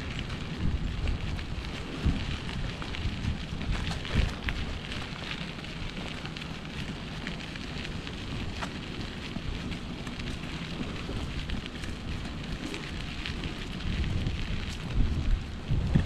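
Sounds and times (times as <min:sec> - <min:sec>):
faint irregular crackles: 0:00.0 - 0:16.0
wind buffeting microphone: 0:00.0 - 0:16.0.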